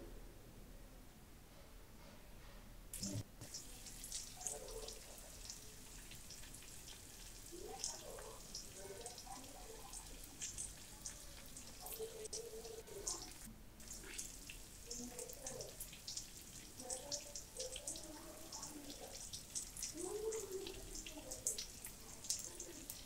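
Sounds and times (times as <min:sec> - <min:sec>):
small crackles and pops: 0:03.0 - 0:23.0
vegetables frying in oil: 0:03.0 - 0:23.0.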